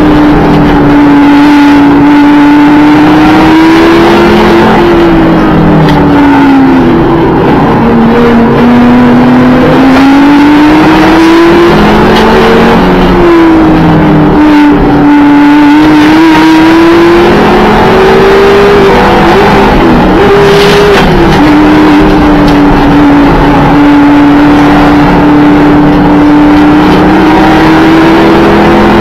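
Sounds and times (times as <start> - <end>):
car engine revving under load: 0.0 - 29.0.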